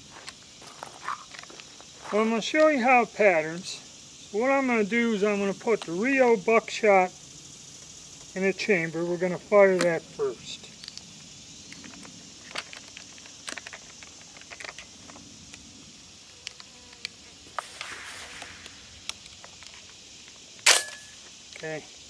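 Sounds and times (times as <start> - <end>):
insect buzz: 0.0 - 22.0.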